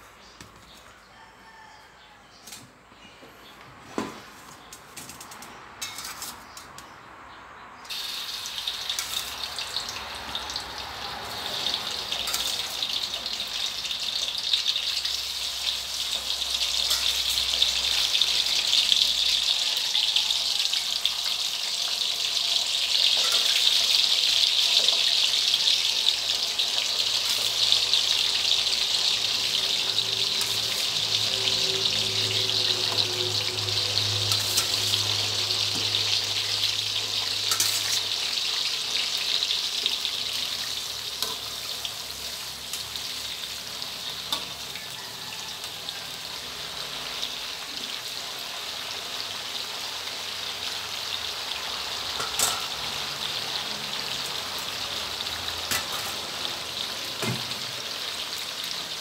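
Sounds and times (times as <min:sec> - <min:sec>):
sausages sizzling in hot oil: 0:07.8 - 0:59.0.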